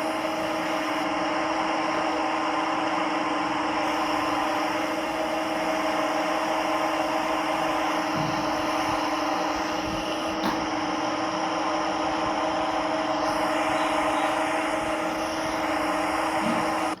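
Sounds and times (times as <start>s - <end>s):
lathe machine hum: 0.0s - 17.0s.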